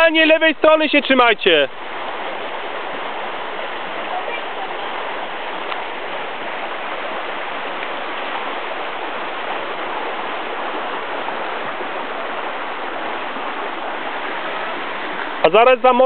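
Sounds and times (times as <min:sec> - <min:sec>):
water rushing over stones: 0:00.0 - 0:16.0.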